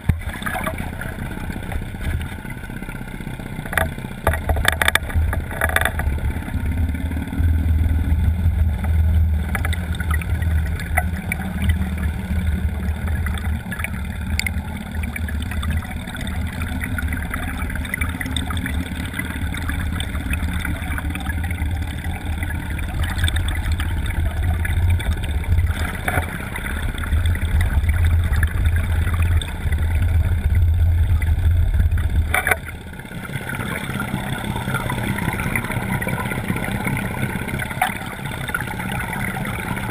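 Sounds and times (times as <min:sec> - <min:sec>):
motorboat engine rumble: 0:00.0 - 0:39.9.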